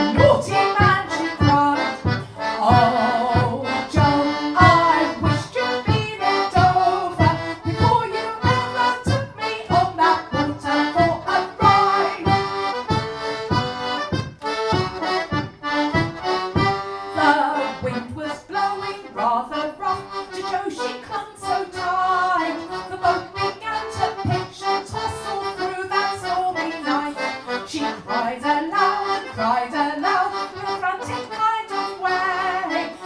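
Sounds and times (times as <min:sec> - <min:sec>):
melodeon playing a polka: 0:00.0 - 0:33.0.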